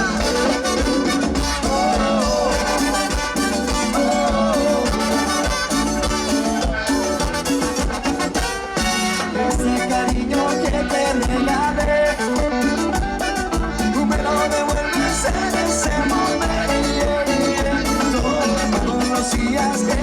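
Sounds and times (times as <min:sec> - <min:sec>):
live band playing latin dance music: 0:00.0 - 0:20.0.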